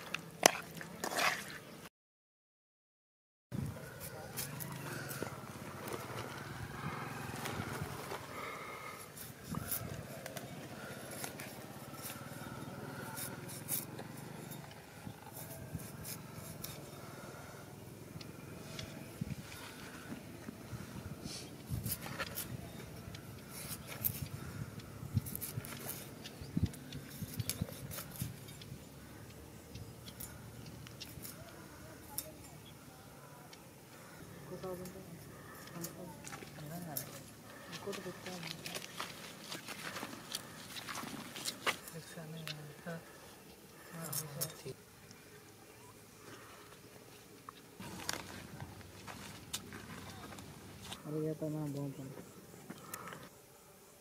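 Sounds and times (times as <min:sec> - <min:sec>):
steady low hum: 0:03.6 - 0:54.0.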